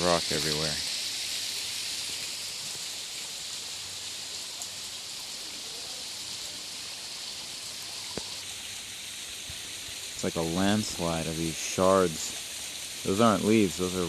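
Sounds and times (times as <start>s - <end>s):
water rushing over bedrock: 0.0s - 14.0s.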